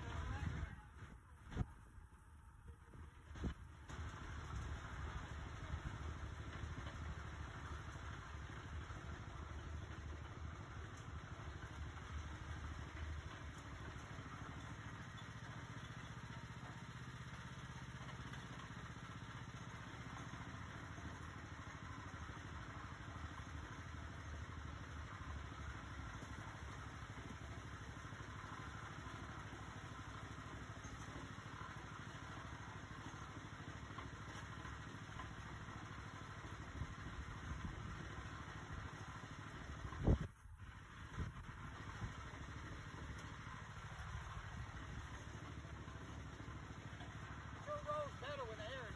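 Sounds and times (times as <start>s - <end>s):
small engine idling: 0.0s - 48.9s
concrete mixer clatter: 3.4s - 48.9s.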